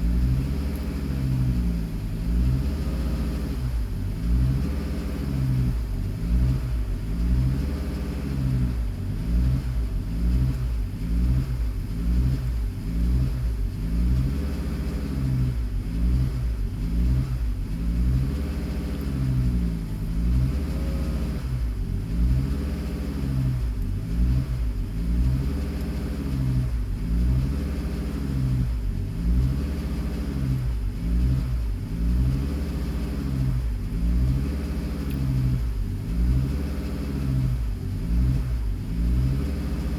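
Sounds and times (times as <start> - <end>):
car engine idling unevenly: 0.0 - 39.9.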